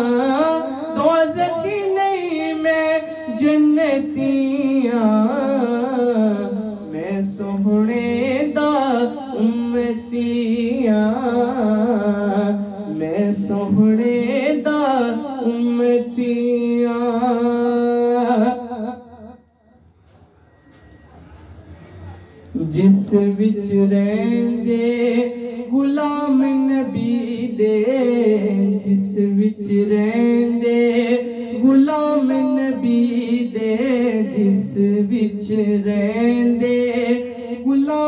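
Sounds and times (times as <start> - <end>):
boy singing into microphone: 0.0 - 19.0, 22.5 - 38.0.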